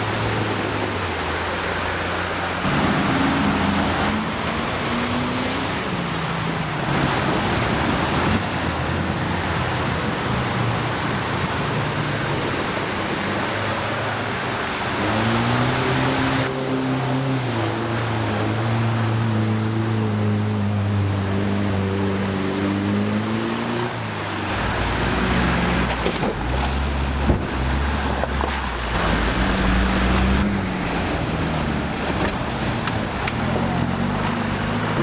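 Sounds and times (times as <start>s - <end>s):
loud continuous rushing noise: 0.0s - 35.0s
vehicle engine revving: 2.4s - 10.9s, 14.3s - 35.0s.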